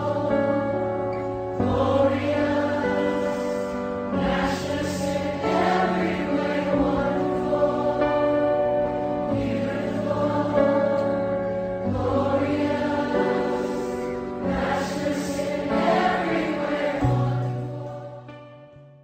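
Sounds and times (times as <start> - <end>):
slow choral music: 0.0 - 19.0.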